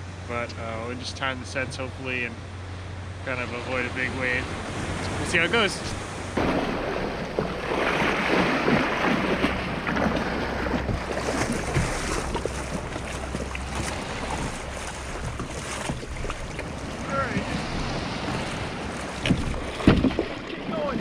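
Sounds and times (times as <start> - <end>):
surf washing around a kayak: 0.0 - 21.0
wind rumble on microphone: 3.8 - 21.0.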